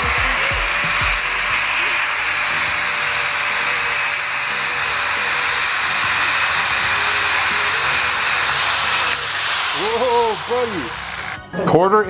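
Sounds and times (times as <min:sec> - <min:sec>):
power tool grinding metal: 0:00.0 - 0:11.6.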